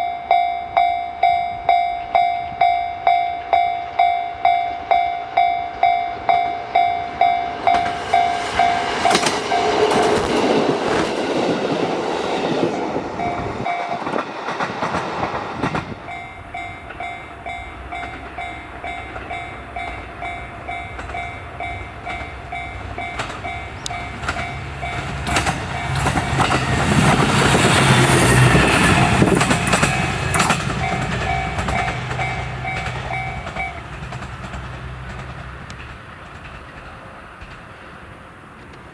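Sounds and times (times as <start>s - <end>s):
level-crossing warning bell: 0.0s - 10.5s, 13.1s - 14.5s, 15.8s - 35.3s
diesel railcar passing: 0.0s - 38.9s.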